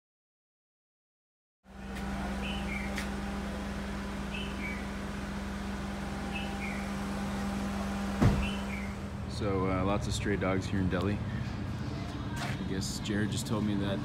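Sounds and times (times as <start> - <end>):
low machine hum: 1.7 - 14.0.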